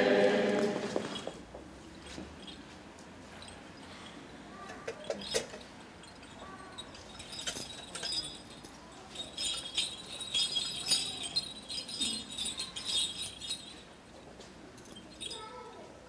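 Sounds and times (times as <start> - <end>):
metal vessels jingling and clinking: 0.9 - 16.0.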